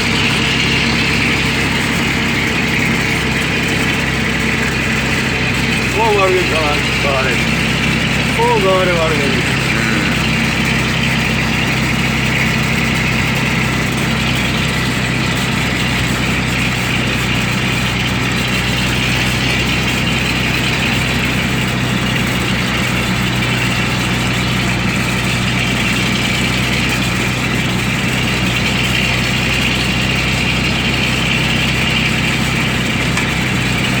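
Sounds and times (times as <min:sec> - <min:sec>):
truck engine running: 0:00.0 - 0:34.0.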